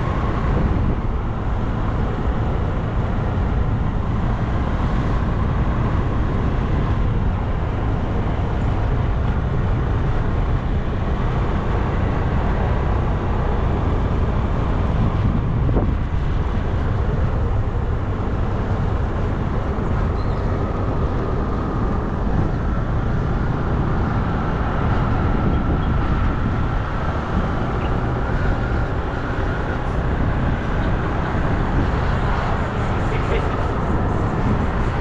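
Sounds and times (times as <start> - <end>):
bike road noise: 0.0 - 35.0
wind rush on microphone: 0.0 - 35.0.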